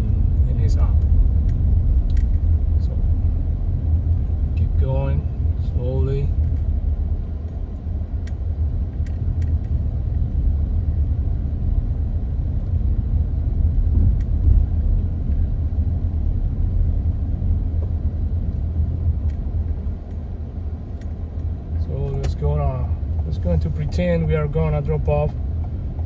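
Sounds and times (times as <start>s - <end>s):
car driving rumble from inside: 0.0s - 26.0s.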